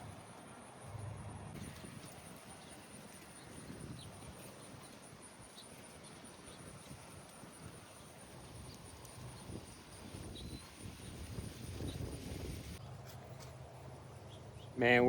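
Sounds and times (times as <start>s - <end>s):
insects trilling: 0.1s - 12.8s.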